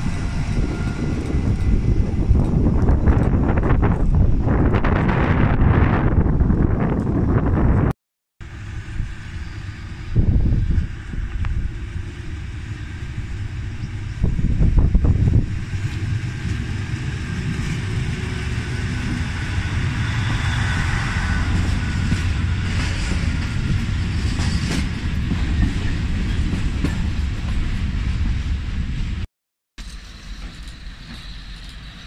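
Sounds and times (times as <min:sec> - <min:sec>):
train rumbling past: 0:00.0 - 0:32.0.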